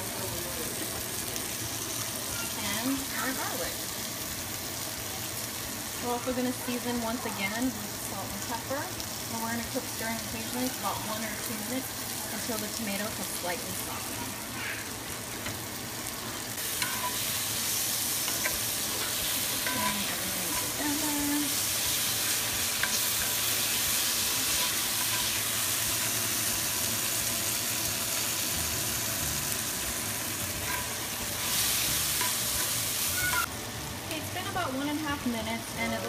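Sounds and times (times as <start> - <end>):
vegetables sizzling in skillet: 0.0 - 36.0.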